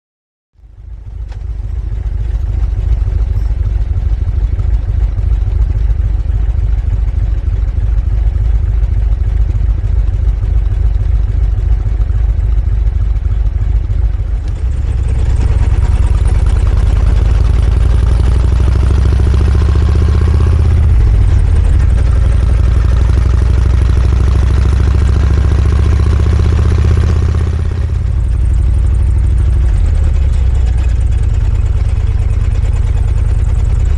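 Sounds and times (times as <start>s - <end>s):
motorcycle engine rumbling: 0.6s - 33.9s.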